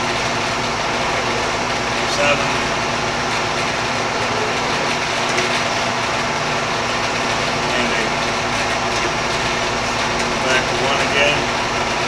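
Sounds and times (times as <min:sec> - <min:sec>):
lathe running with mechanical hum: 0:00.0 - 0:12.0.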